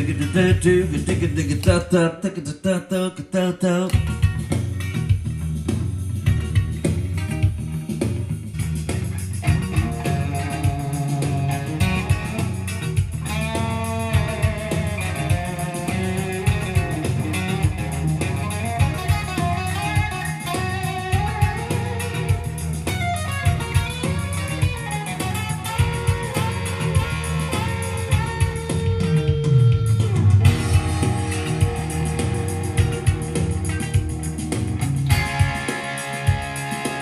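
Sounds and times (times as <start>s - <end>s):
drum machine beat: 0.0s - 2.0s, 3.9s - 37.0s
lead guitar with bending notes: 0.0s - 2.2s, 3.9s - 37.0s
looped electric guitar and bass: 0.0s - 2.5s, 3.6s - 37.0s.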